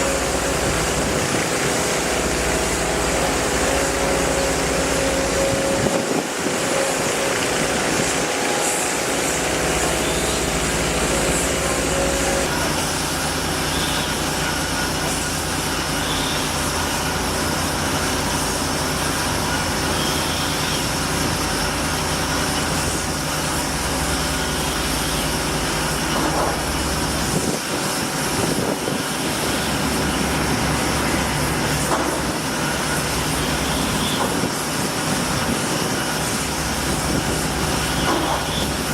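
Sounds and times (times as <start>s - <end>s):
engines running: 0.0s - 38.9s.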